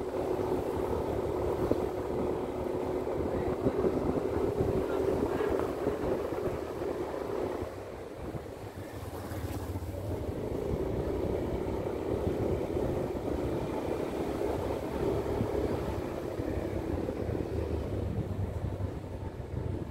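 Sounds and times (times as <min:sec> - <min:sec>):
rushing road noise: 0:00.0 - 0:19.9.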